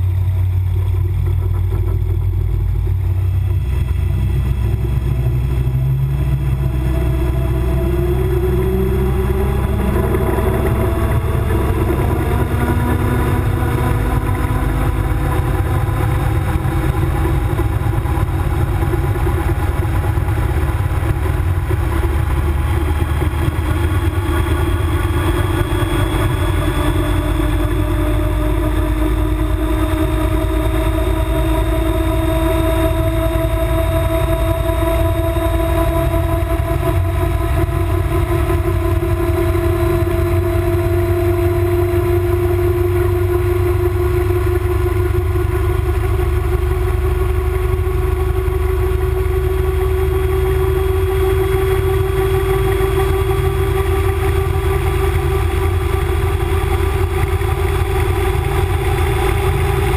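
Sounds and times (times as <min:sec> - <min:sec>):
gyroplane engine and propeller running: 0:00.0 - 0:59.9.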